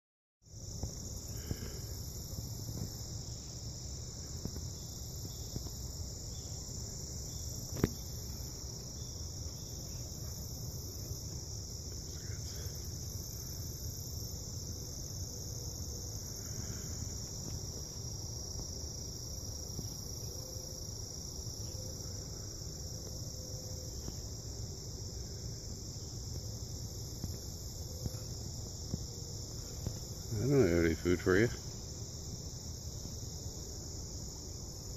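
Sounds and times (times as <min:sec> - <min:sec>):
insect chorus: 0:00.4 - 0:34.9.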